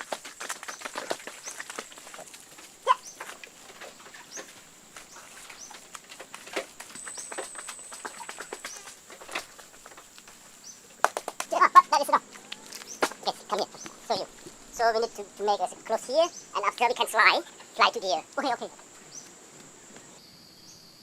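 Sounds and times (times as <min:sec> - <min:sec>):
chickens clucking: 0:00.5 - 0:10.5, 0:11.4 - 0:20.2.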